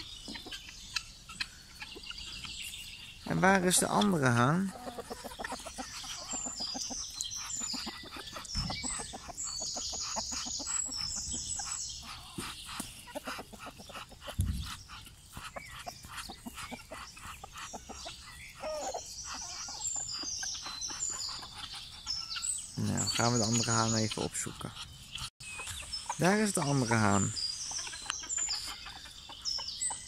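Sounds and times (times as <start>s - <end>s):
high-pitched bird chirping: 0.0s - 13.1s, 13.9s - 30.0s
chickens clucking: 0.0s - 30.0s.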